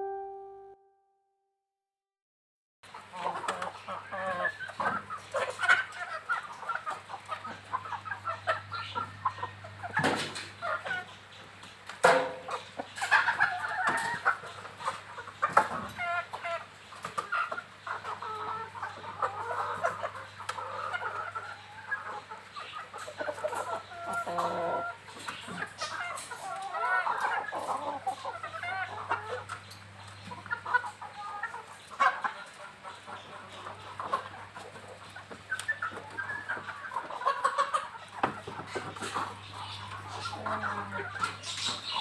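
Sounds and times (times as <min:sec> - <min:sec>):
chickens clucking: 0:00.0 - 0:00.7, 0:02.8 - 0:42.0.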